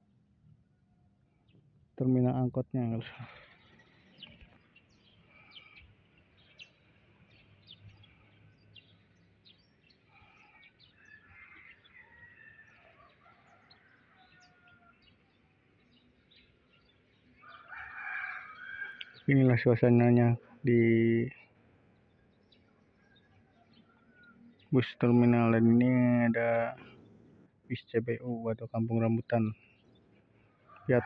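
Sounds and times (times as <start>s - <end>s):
faint birdsong chirps: 0.0s - 31.0s.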